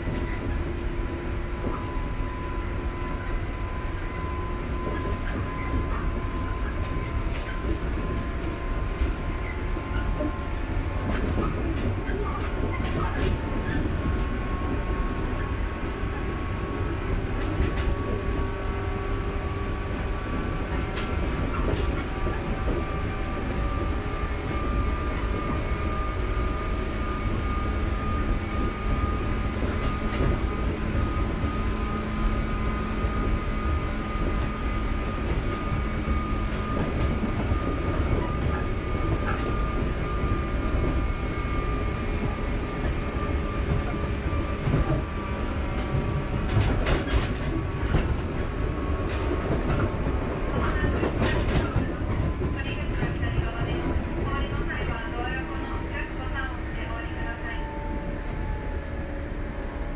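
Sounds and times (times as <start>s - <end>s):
train motors and wheels rumbling: 0.0s - 59.9s.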